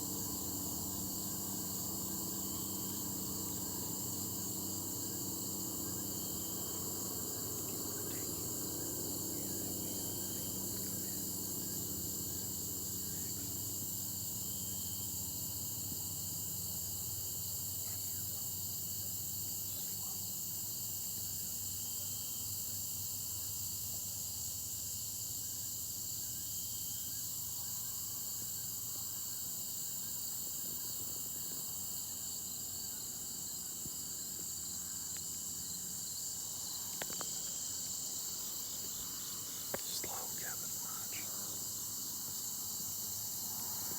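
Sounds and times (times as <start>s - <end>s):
crickets and insects trilling: 0.0s - 43.9s.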